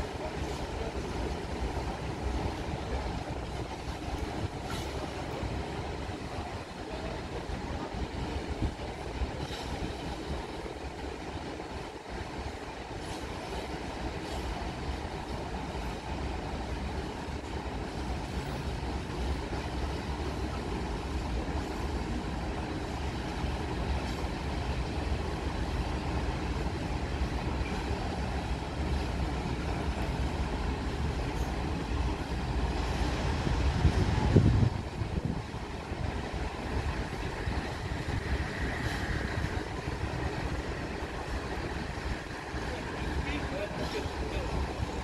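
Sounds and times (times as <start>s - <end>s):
diesel locomotive rumble: 0.0s - 45.0s.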